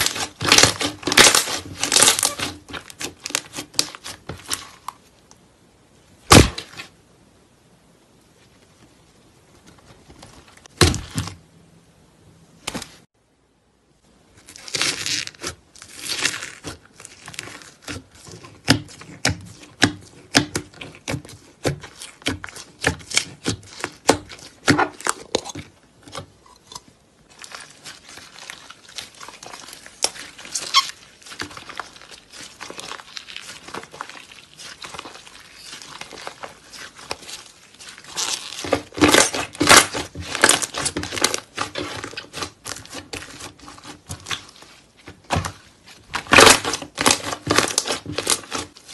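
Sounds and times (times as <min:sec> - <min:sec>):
slime crackling and popping: 0:00.0 - 0:05.0, 0:06.3 - 0:06.9, 0:14.4 - 0:48.9.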